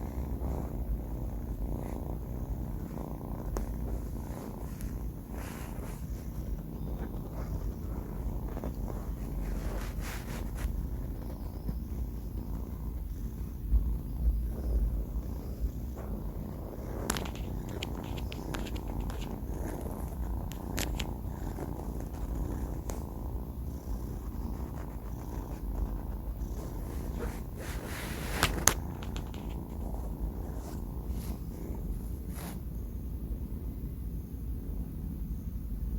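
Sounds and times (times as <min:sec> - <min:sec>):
kitten snoring: 0:00.0 - 0:35.1.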